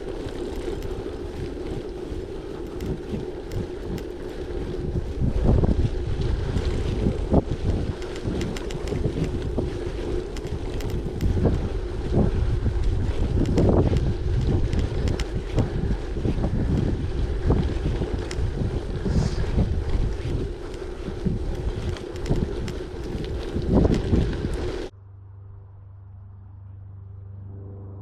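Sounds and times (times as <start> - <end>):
bike clicks and rattles: 0.0 - 24.9
bike tyres rolling on gravel: 0.0 - 24.9
wind buffeting microphone: 0.0 - 24.9.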